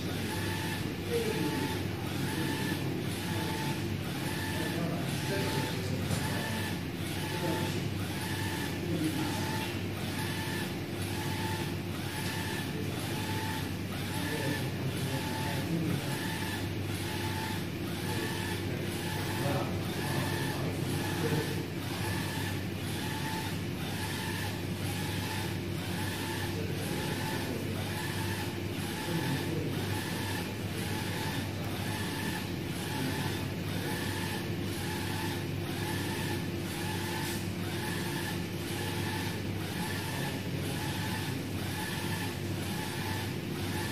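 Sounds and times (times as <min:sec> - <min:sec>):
printer carriage motor whine: 0:00.0 - 0:43.9
steady machine hum: 0:00.0 - 0:43.9.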